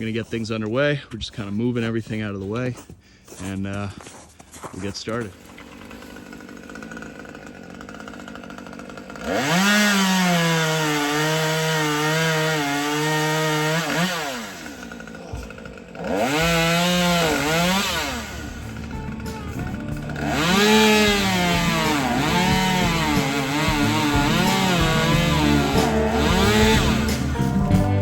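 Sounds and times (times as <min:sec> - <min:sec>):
chainsaw idling and revving: 0:05.1 - 0:28.0.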